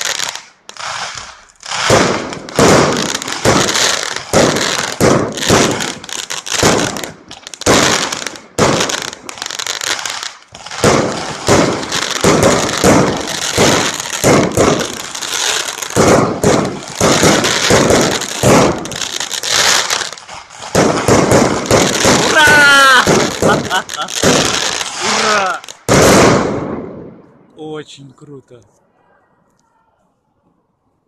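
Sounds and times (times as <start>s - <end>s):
fireworks bangs and crackling: 0.0s - 27.5s.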